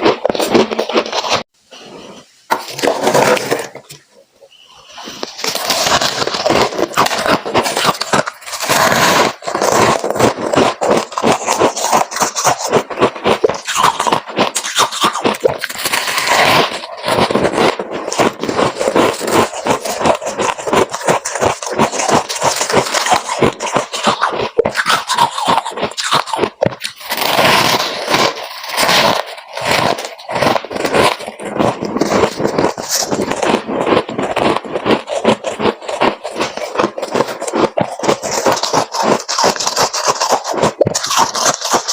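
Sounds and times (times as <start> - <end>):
frost scraping and crunching: 0.0 - 41.9.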